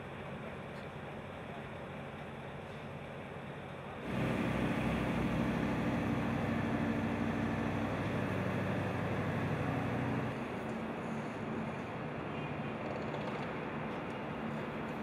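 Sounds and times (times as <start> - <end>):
heavy machinery engine droning: 0.0 - 15.0.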